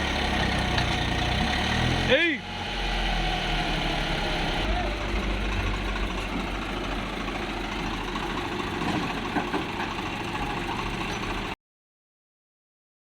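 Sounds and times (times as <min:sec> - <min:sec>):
diesel engine idling: 0:00.0 - 0:11.6.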